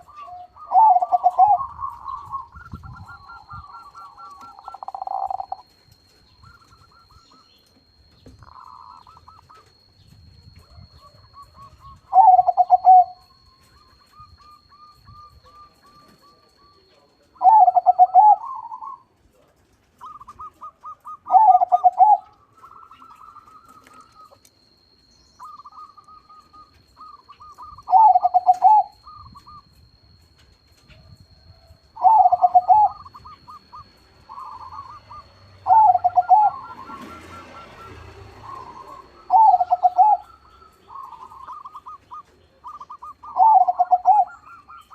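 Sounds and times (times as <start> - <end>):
stuttering runs of bird notes: 0.0 - 19.1, 19.9 - 44.9
dove cooing: 0.0 - 24.4, 25.4 - 44.9.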